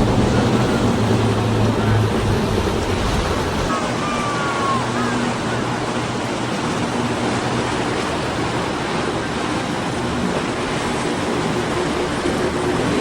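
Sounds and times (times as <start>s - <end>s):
power boat engines droning: 0.0s - 13.0s
water rushing: 0.0s - 13.0s
wind: 0.0s - 13.0s.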